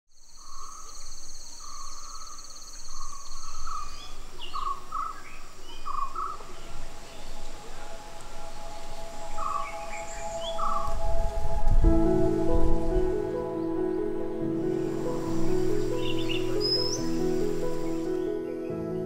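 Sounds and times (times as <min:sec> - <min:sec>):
high insect trill: 0:00.1 - 0:18.3
birds chirping: 0:00.2 - 0:19.0.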